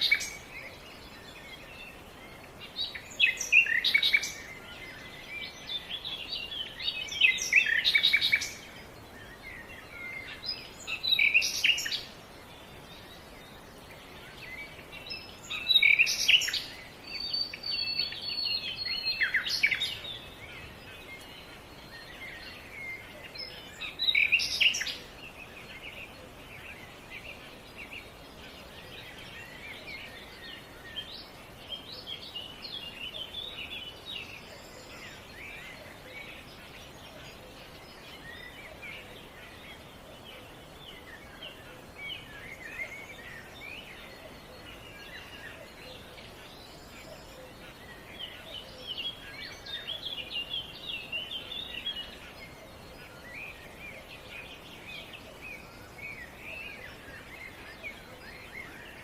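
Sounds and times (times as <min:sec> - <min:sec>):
faint outdoor hiss: 0:00.0 - 0:59.0
small birds chirping: 0:00.0 - 0:59.0.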